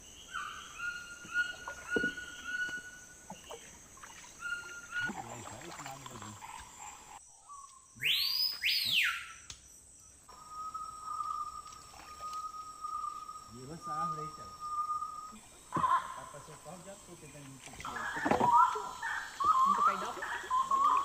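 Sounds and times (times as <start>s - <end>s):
loud sweeping whistled calls: 0.0s - 6.7s, 7.3s - 9.5s, 10.3s - 15.7s, 16.4s - 21.0s.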